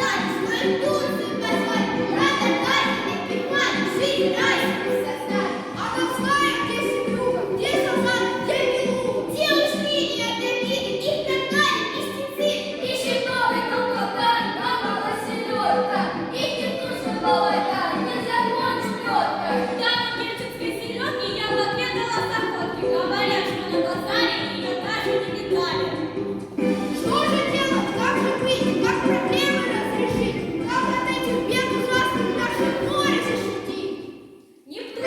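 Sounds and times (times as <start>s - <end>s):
instrumental backing music: 0.0s - 33.8s.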